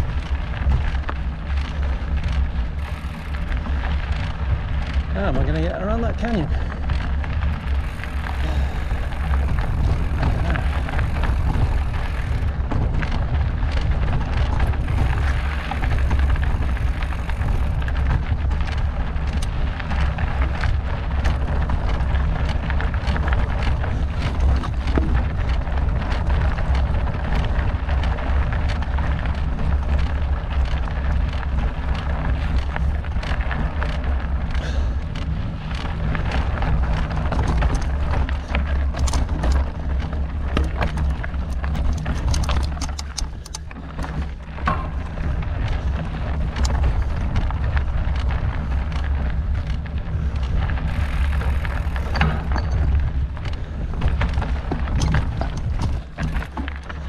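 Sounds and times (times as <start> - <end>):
bike tyres rolling over rocks: 0.0 - 57.0
rocks clicking and parts rattling: 0.0 - 57.0
wind rumbling on microphone: 0.0 - 57.0.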